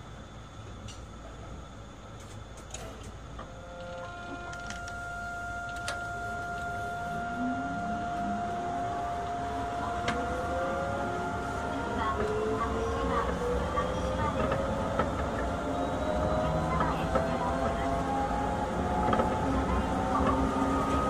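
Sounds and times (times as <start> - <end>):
train running rumble: 0.0 - 21.0
electronic traction whine: 1.4 - 21.0
motor tones rising in pitch: 3.5 - 21.0.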